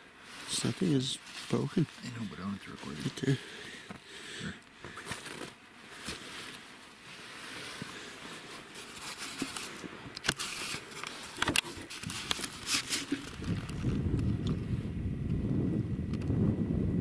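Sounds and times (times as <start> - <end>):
fabric and leaves rustling: 0.0 - 15.0.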